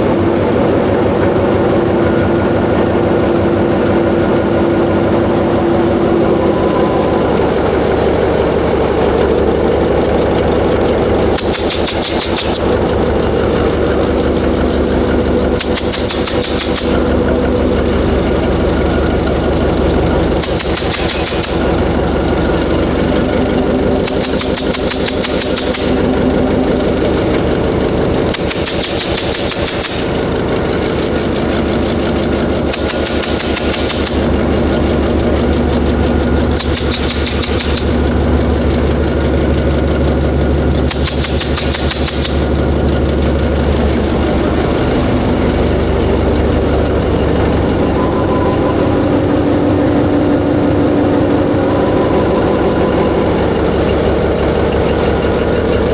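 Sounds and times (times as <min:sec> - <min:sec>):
diesel generator engine running: 0:00.0 - 0:55.9.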